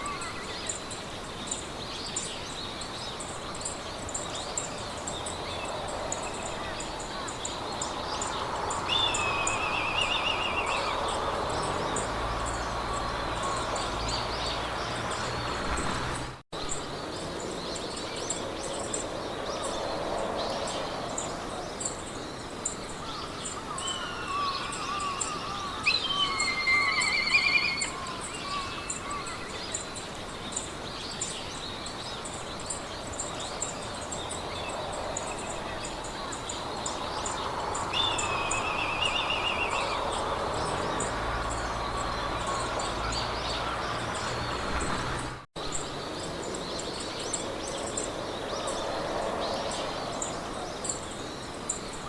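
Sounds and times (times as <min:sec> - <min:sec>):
wind through grass: 0:00.0 - 0:52.0
trilling bird calls: 0:01.5 - 0:16.8, 0:22.9 - 0:52.0.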